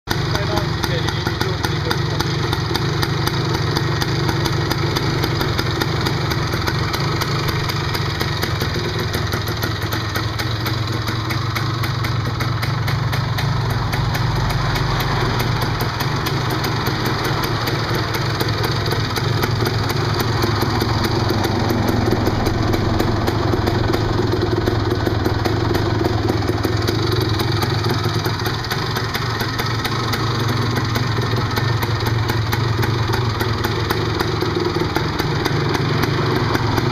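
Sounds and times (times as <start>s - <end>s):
two-stroke motorcycle engine idling: 0.1s - 36.9s.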